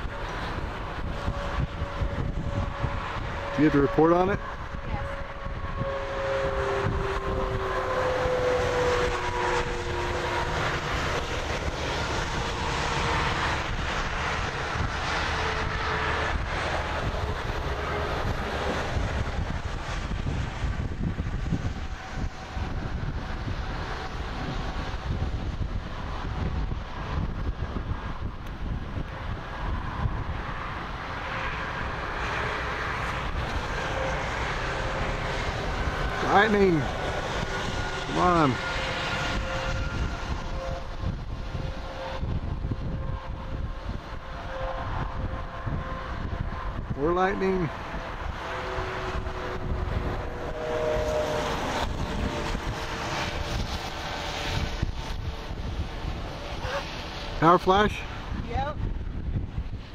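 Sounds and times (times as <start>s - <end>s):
passing vehicle whine: 0.0s - 59.9s
traffic roar: 0.0s - 59.9s
wind buffeting microphone: 0.0s - 59.9s
wind rushing: 0.0s - 59.9s.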